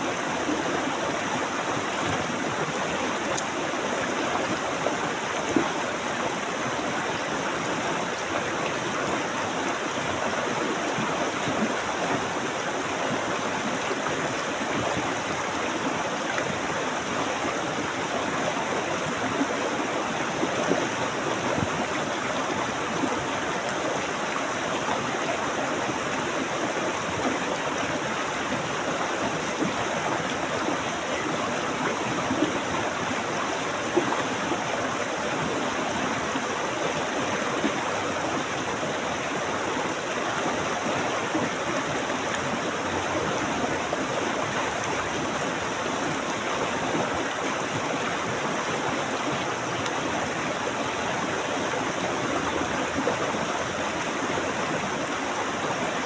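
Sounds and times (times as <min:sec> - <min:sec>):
stream water flowing and splashing: 0:00.0 - 0:56.0.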